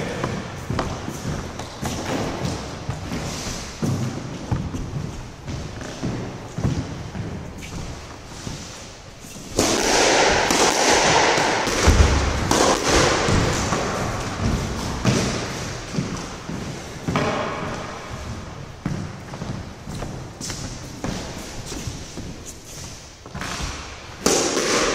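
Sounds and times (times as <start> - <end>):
squash ball thudding: 0.2 - 22.4, 23.0 - 24.9.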